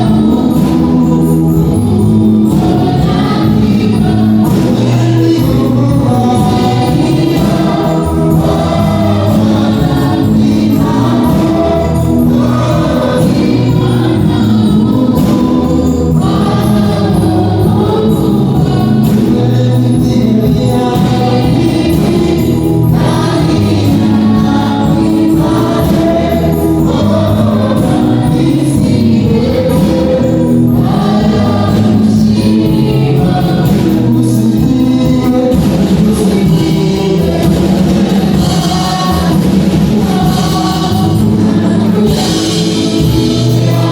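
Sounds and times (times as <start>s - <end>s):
gospel choir singing: 0.0s - 43.9s
instrumental accompaniment: 0.0s - 43.9s.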